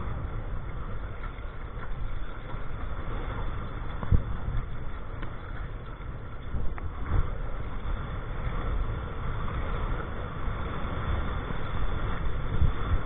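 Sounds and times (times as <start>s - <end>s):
water rushing along hull: 0.0s - 13.0s
wind rumbling on microphone: 0.0s - 13.0s.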